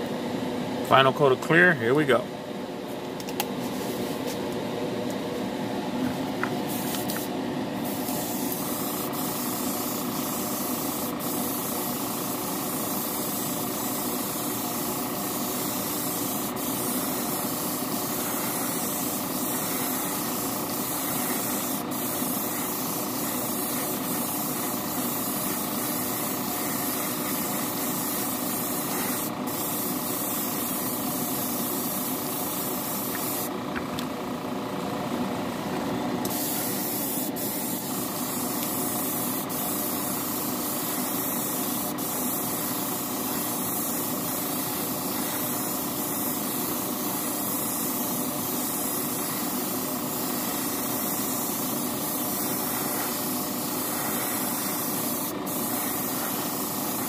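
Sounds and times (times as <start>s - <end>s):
steady mechanical hum: 0.0s - 57.0s
airbrush spray hiss: 6.6s - 33.5s, 36.2s - 57.0s.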